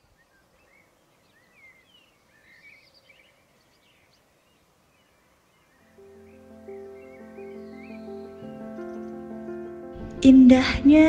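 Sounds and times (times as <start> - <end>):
birds chirping and whistling: 0.2 - 4.2, 5.0 - 9.9.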